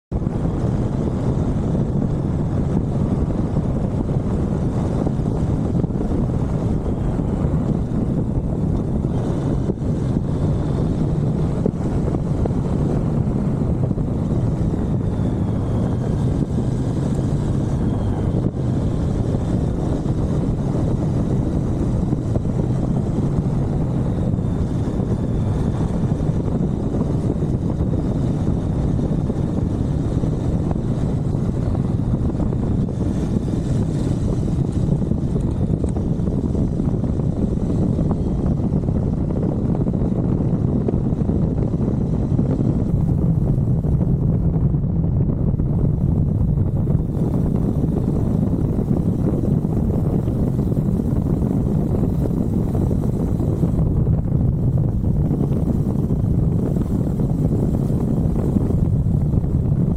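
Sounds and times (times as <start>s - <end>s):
wind rushing over microphone: 0.0s - 59.9s
motorcycle engine running: 0.1s - 59.9s.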